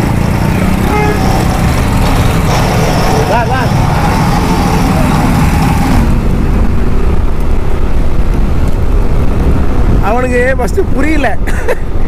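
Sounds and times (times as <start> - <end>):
motorcycle running: 0.0 - 10.6.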